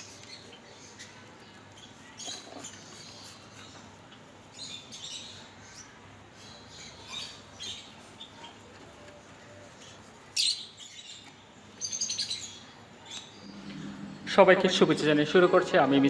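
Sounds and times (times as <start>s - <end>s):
parrots chirping: 0.0s - 14.4s.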